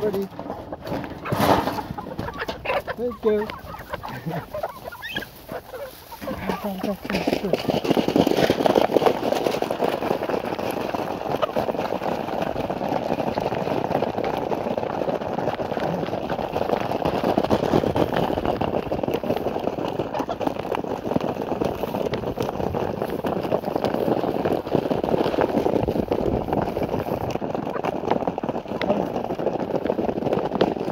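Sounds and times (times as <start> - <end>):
chickens pecking grain: 0.0 - 30.9.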